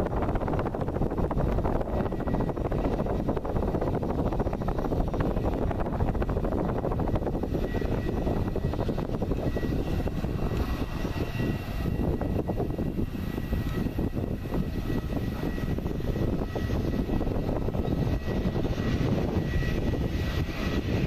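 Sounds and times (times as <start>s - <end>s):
jet engines taxiing: 0.0s - 21.0s.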